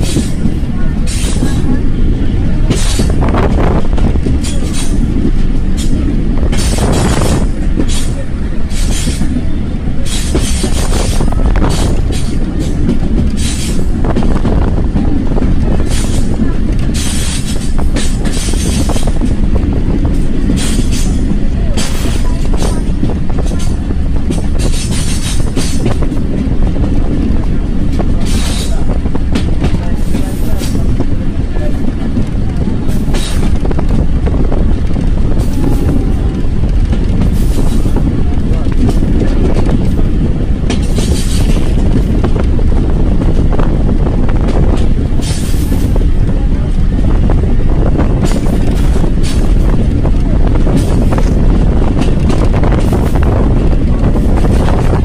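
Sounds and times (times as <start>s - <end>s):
vehicle rumbling: 0.0s - 55.0s
wheels clacking on rails: 0.0s - 55.0s.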